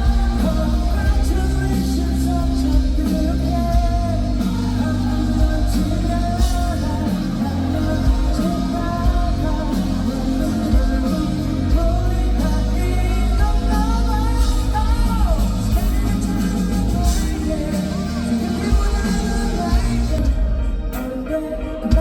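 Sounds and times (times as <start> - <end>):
bass guitar: 0.0 - 22.0
drums: 0.0 - 22.0
electric guitar: 0.0 - 22.0
man singing pop-rock song: 0.0 - 22.0.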